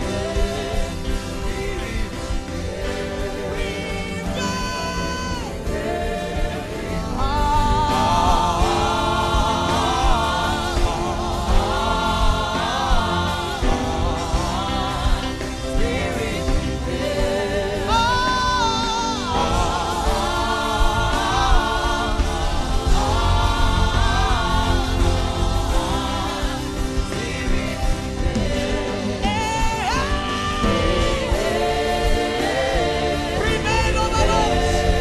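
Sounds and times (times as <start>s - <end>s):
instrumental backing with bass: 0.0s - 35.0s
person humming gospel melody: 0.0s - 35.0s.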